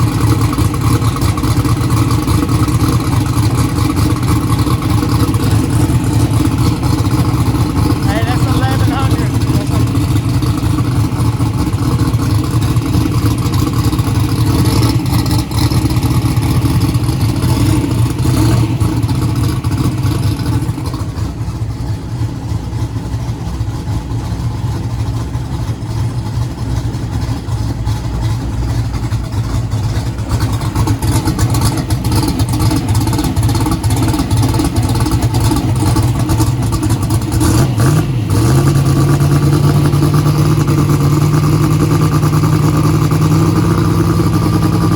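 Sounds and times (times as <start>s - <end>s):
turbocharged engine running: 0.0s - 44.9s.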